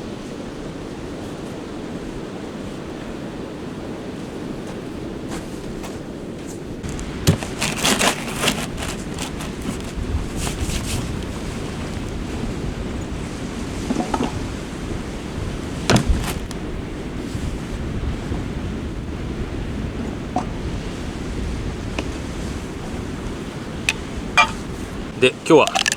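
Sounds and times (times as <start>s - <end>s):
sea surf washing: 0.0s - 25.9s
wind on microphone: 0.0s - 25.9s.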